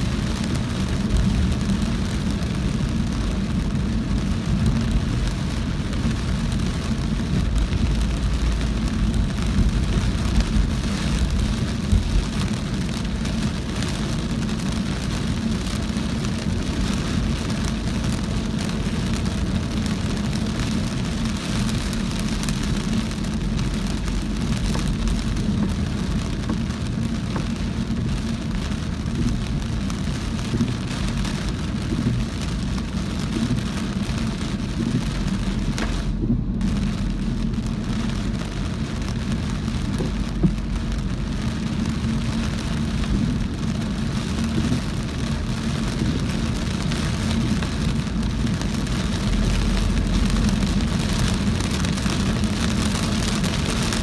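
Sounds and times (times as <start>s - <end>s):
car driving on wet road: 0.0s - 54.0s
rain drops ticking on car: 0.0s - 54.0s.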